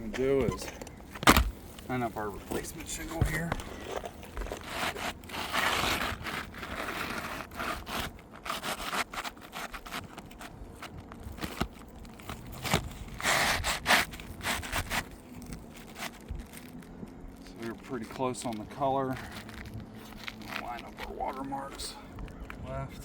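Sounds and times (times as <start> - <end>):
shingle scraping on roof: 0.4 - 16.4, 17.7 - 22.0.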